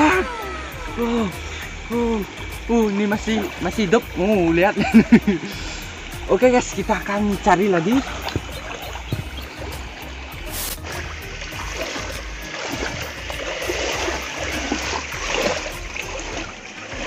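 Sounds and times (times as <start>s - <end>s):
splashing while wading: 0.0s - 17.0s
stream water running: 0.0s - 17.0s.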